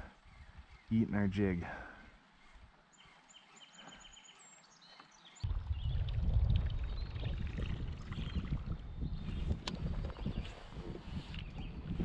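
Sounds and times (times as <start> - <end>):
bird chirping: 0.0 - 11.8.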